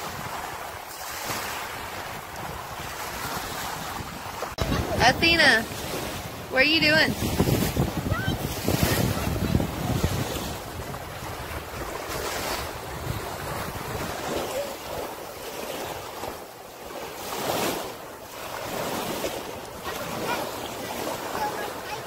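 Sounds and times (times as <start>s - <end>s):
wind buffeting microphone: 0.0s - 17.8s
small waves washing on sand: 0.0s - 22.0s.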